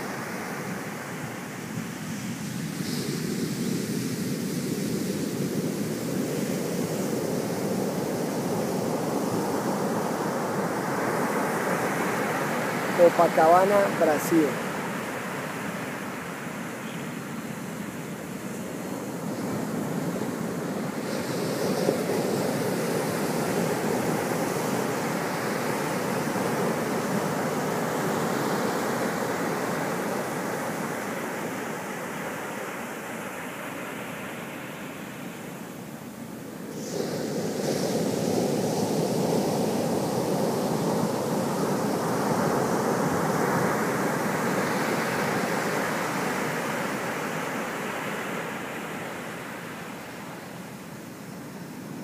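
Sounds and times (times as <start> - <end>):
ocean surf breaking: 0.0 - 52.0.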